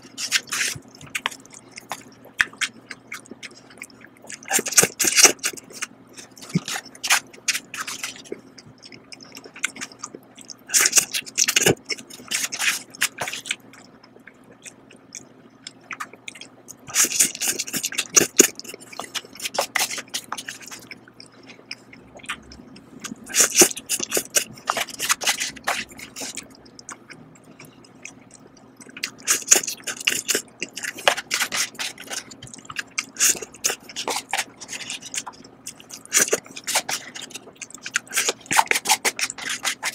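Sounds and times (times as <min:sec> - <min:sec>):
quiet chewing: 0:00.0 - 0:39.9.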